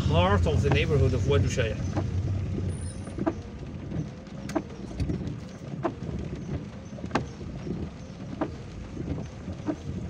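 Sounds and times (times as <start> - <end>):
car engine rumble: 0.0 - 10.0
tyres on wet road: 0.0 - 10.0
windscreen wiper knocking: 0.0 - 10.0.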